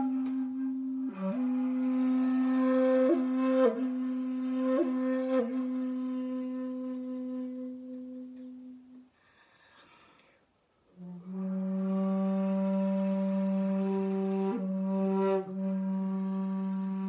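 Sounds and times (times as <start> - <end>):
shakuhachi flute low note: 0.0 - 9.0, 11.0 - 17.0.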